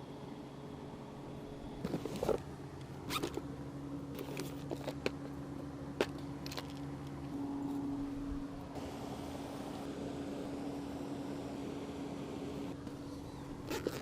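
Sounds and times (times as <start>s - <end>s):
low hum: 0.0s - 13.7s.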